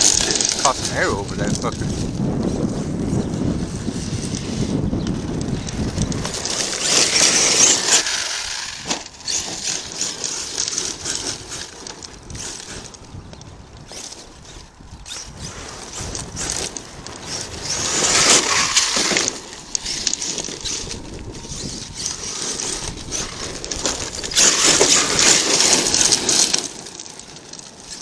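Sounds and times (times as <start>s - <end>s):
rc truck tyres crunching gravel: 0.0s - 28.0s.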